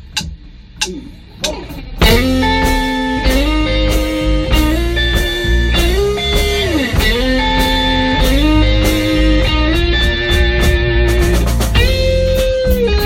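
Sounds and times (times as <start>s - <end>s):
blues band playing: 0.8s - 13.0s
electric guitar bending notes: 0.8s - 13.0s.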